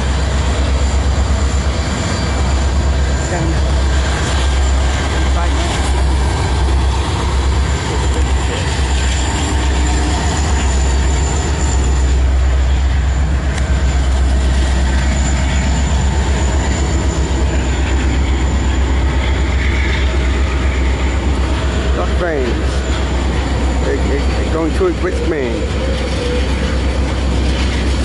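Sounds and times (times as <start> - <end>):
train wheels on rail: 0.0 - 28.0.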